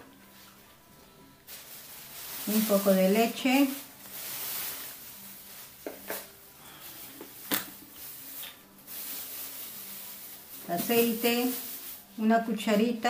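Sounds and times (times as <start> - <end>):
room hiss: 1.3 - 12.2.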